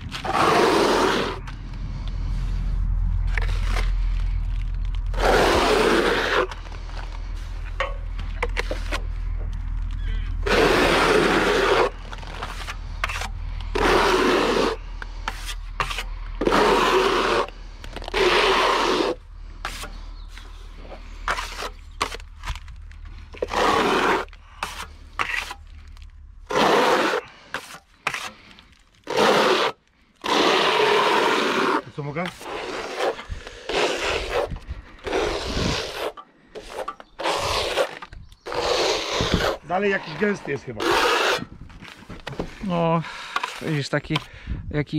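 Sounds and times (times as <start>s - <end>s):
trowel scraping wet render: 0.0s - 1.6s, 5.1s - 9.1s, 10.0s - 44.4s.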